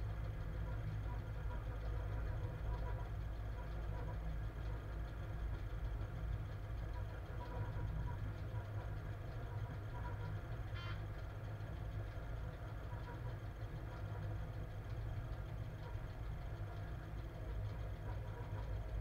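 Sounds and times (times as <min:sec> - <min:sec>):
locomotive cab rumble: 0:00.0 - 0:19.0.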